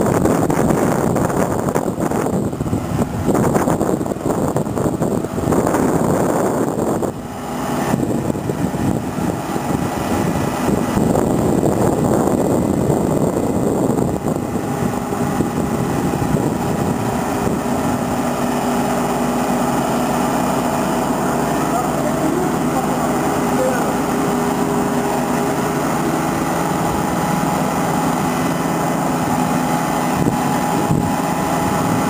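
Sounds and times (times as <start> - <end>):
street noise: 0.0 - 32.0
trolleybus generator humming: 0.0 - 32.0.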